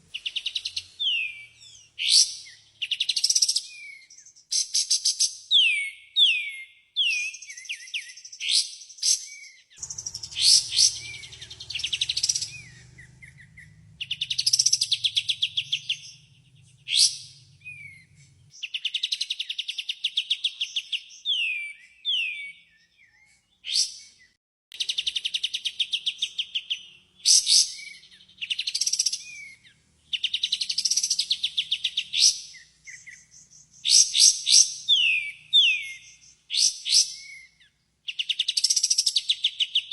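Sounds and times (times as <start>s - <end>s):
bird song trills and whistles: 0.1s - 39.9s.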